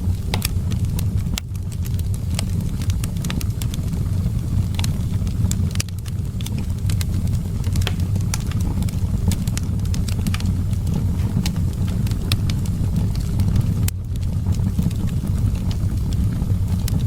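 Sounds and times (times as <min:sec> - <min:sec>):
low rumble of wind: 0:00.0 - 0:17.0
wood fire crackling: 0:00.0 - 0:17.0.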